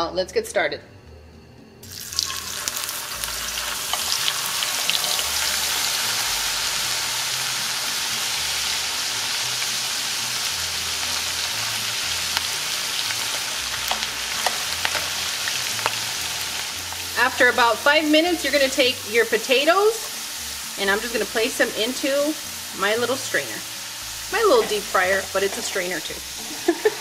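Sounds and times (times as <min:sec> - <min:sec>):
potatoes deep-frying in oil: 0:01.8 - 0:27.0.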